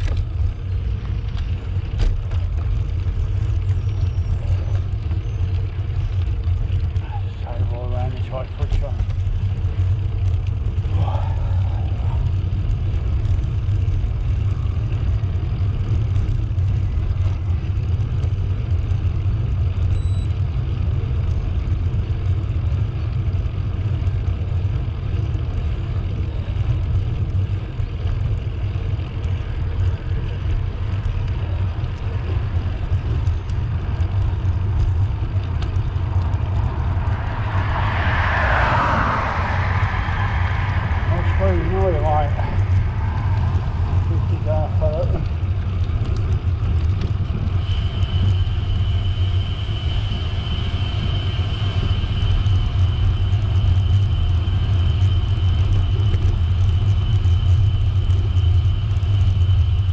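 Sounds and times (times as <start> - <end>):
bicycle riding rumble: 0.0 - 59.9.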